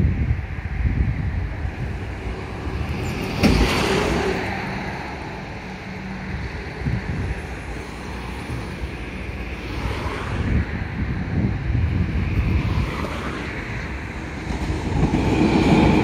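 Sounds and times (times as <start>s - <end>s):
road traffic noise: 0.0s - 16.0s
wind on microphone: 0.0s - 16.0s.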